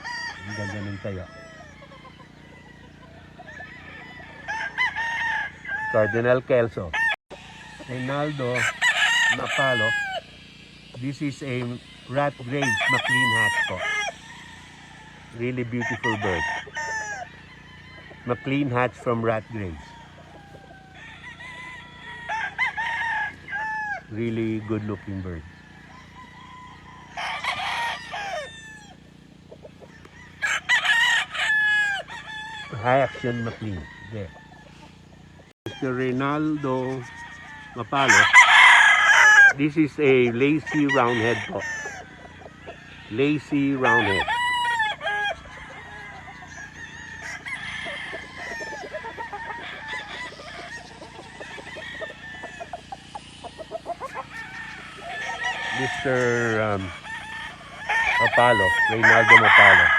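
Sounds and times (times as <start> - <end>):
roosters crowing: 0.0 - 59.9.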